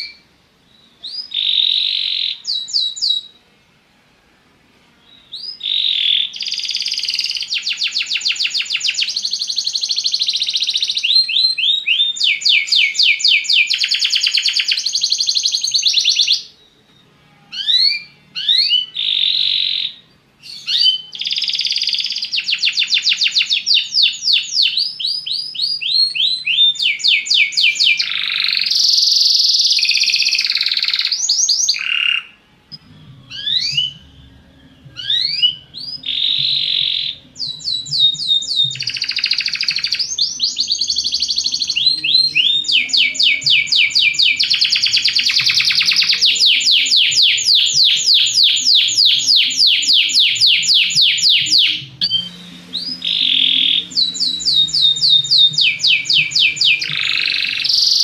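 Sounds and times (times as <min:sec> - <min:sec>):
canary singing trills: 0:00.0 - 0:03.5, 0:05.0 - 0:58.0.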